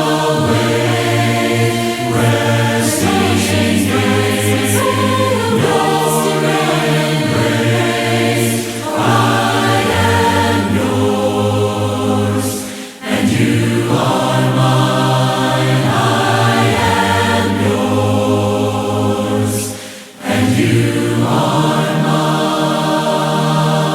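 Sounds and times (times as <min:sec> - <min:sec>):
choir singing a hymn: 0:00.0 - 0:23.9.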